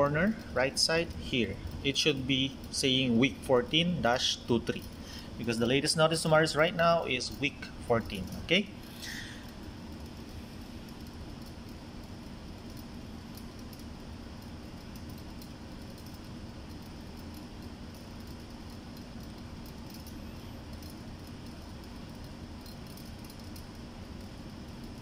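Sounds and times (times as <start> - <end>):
equipment hum and hiss: 0.0 - 25.0.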